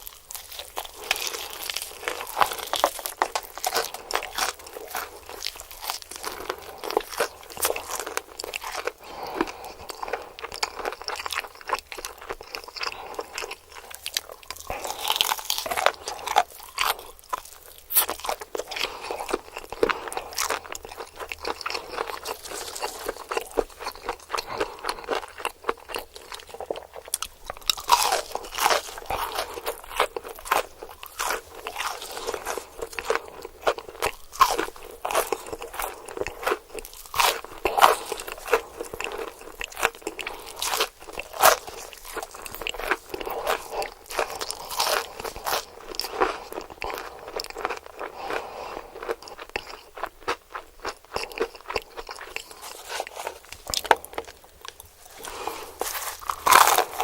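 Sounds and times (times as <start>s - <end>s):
chewing crispy fried chicken: 0.0s - 57.0s.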